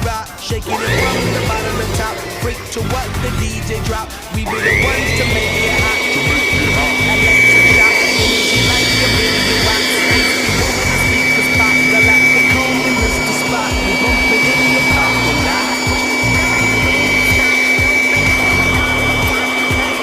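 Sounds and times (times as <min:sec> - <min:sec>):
background music with beat: 0:00.0 - 0:20.0
electric blower motor whining: 0:00.0 - 0:20.0.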